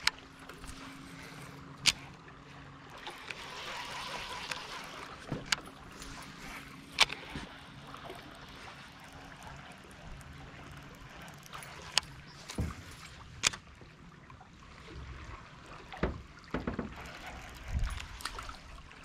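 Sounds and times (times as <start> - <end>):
electric trolling motor humming: 0.0 - 19.0.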